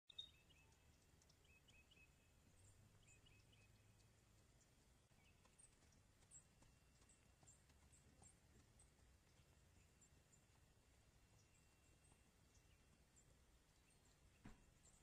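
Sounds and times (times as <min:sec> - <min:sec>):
faint bird chirps: 0:00.1 - 0:15.0.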